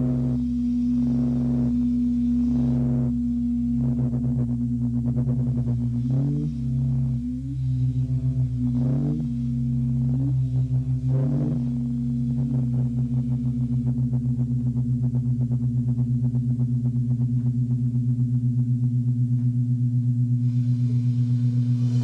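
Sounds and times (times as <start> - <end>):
electronic synthesizer drone music: 0.0 - 22.0.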